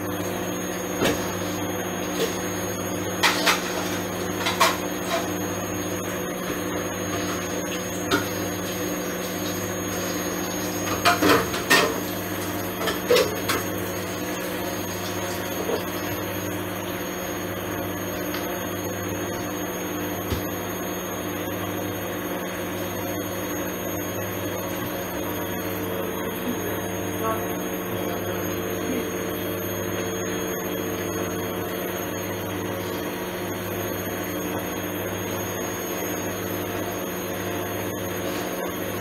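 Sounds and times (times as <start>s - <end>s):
washing machine running: 0.0s - 39.0s.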